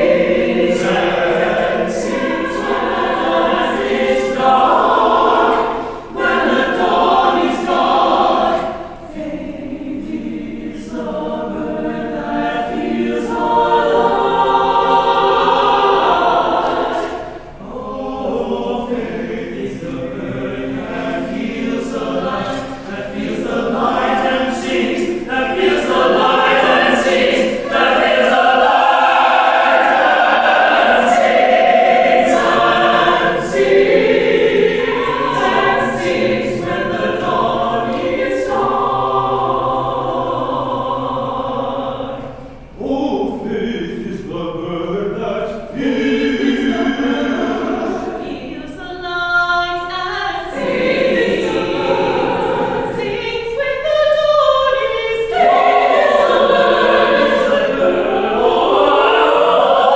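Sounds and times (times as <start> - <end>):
church choir singing: 0.0 - 59.9.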